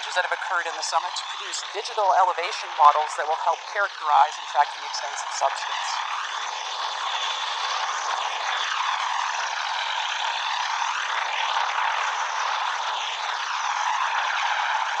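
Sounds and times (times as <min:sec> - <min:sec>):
helicopter in flight: 0:00.0 - 0:15.0.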